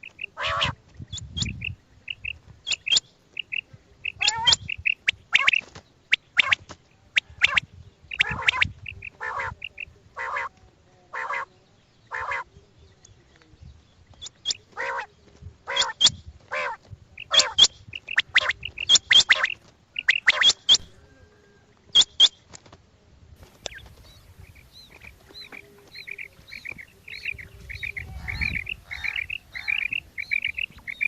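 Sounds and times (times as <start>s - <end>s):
quail calls: 0.0s - 10.5s, 11.1s - 11.5s, 12.1s - 12.5s, 14.2s - 15.1s, 15.7s - 22.3s, 23.5s - 31.0s.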